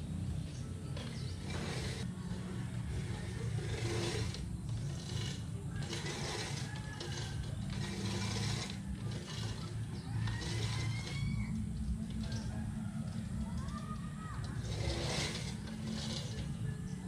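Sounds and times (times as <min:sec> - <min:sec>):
reel mower blades whirring: 0:00.0 - 0:17.0.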